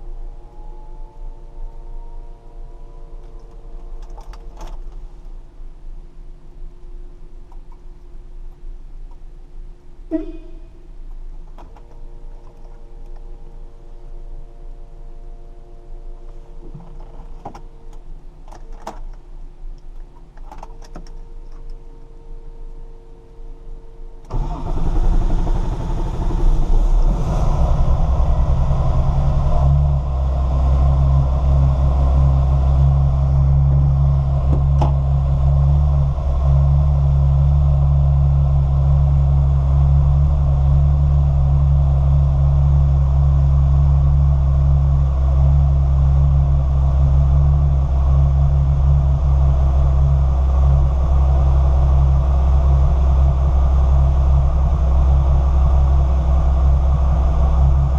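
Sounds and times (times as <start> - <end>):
car engine starting and idling: 0.0 - 57.9.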